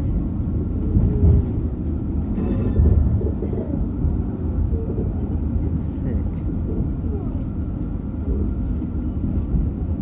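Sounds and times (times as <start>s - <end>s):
tram running rumble: 0.0s - 10.0s.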